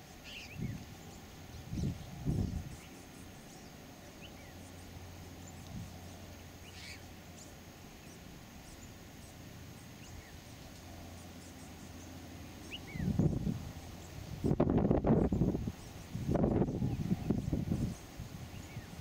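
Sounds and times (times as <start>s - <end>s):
faint bird chirps: 0.0s - 19.0s
low outdoor background rumble: 0.0s - 19.0s.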